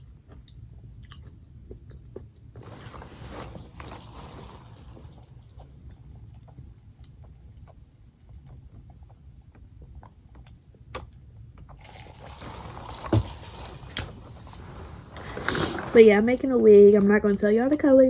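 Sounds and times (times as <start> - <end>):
person chewing food: 0.0 - 15.9
low steady hum: 0.0 - 18.0.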